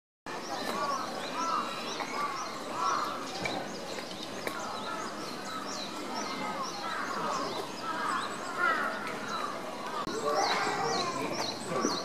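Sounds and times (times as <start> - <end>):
birds chirping: 0.3 - 12.0
lower arched bird calls: 0.3 - 12.0.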